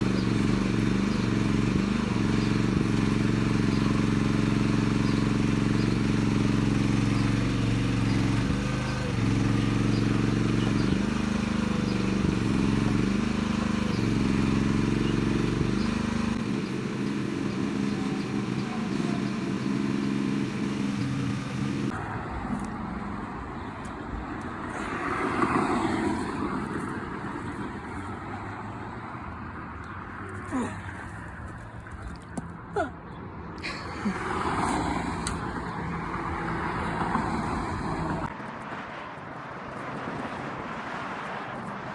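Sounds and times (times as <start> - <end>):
excavator engine running: 0.0 - 32.9, 33.6 - 38.6
rough outdoor noise: 0.0 - 41.9.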